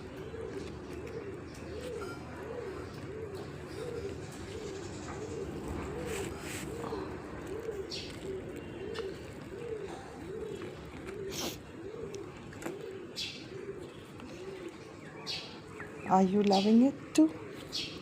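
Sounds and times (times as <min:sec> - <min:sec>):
pigeon cooing: 0:00.0 - 0:18.0.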